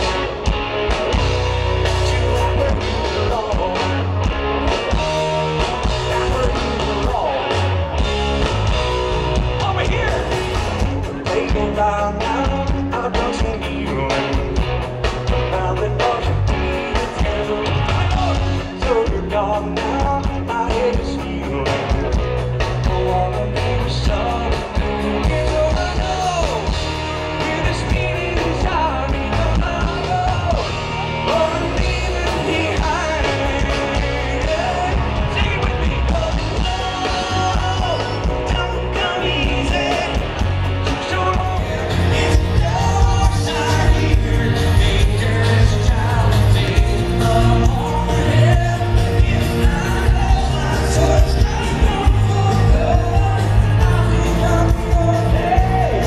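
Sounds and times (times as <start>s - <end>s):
lead singing: 0.0s - 56.0s
live rock band: 0.0s - 56.0s.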